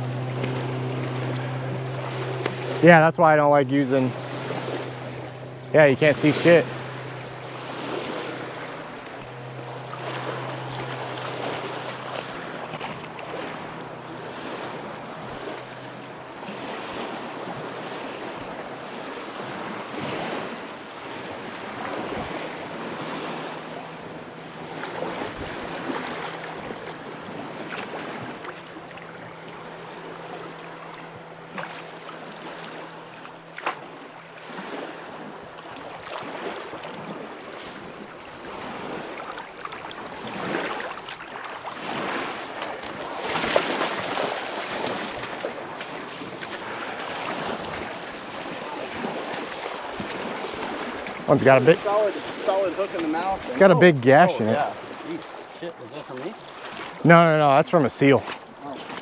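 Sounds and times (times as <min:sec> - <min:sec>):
river water lapping on gravel: 0:00.0 - 0:59.0.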